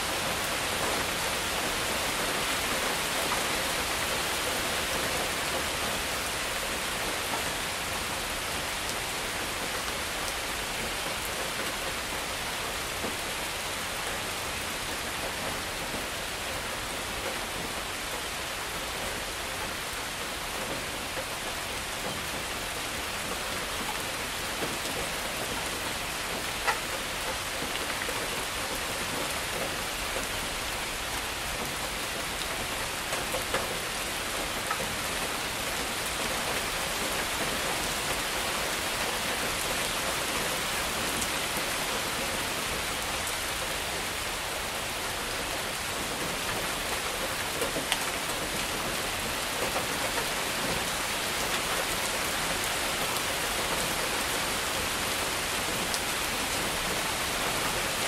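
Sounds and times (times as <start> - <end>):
heavy rain: 0.0 - 58.0
water running through gutter: 0.0 - 58.0.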